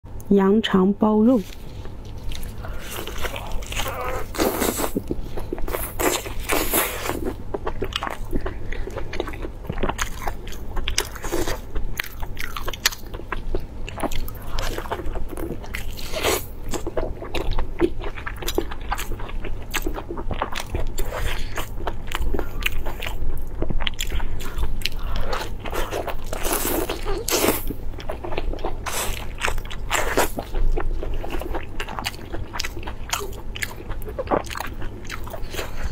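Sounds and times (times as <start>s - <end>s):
steady low hum: 0.1s - 35.9s
person chewing food: 1.4s - 35.9s.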